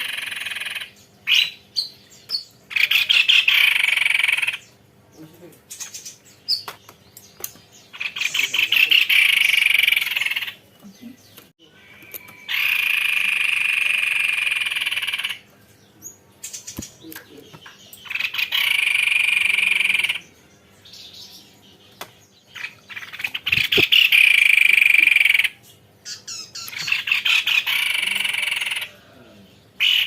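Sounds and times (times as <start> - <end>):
bird singing buzzing trills: 0.0 - 30.0.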